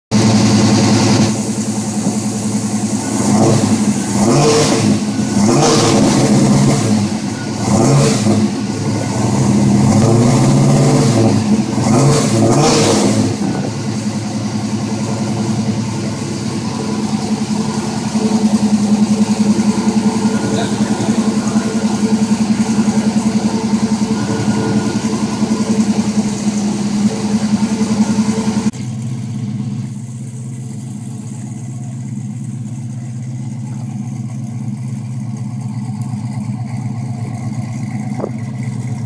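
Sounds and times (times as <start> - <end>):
car engine revving and idling: 0.1 - 39.0.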